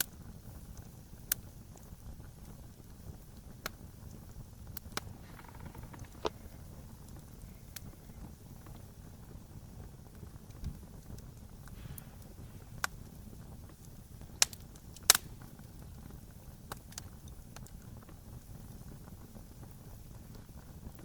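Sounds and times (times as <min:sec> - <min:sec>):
fire popping and crackling: 0:00.0 - 0:21.0
wood fire rumbling: 0:00.0 - 0:21.0.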